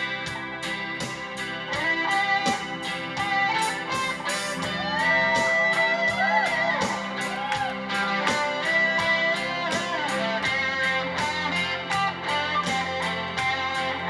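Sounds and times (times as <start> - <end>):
electric guitar lead with bends: 0.0 - 14.0
steady drum beat: 0.0 - 14.0.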